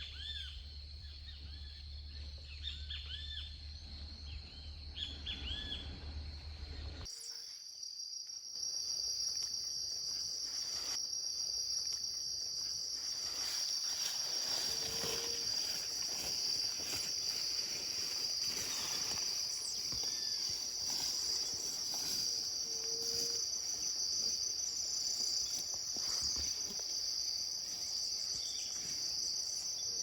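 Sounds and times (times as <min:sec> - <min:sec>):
high-pitched insect drone: 0:00.2 - 0:30.0.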